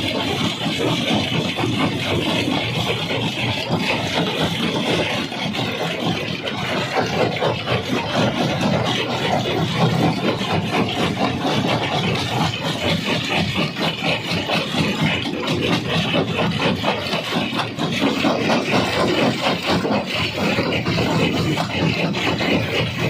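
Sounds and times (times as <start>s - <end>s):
rock crusher rumbling: 0.0s - 23.0s.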